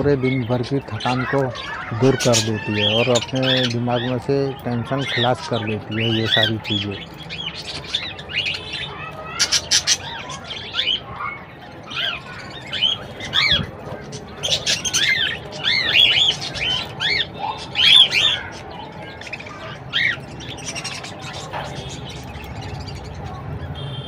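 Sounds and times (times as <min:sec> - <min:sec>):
budgerigars chattering: 0:00.1 - 0:23.4.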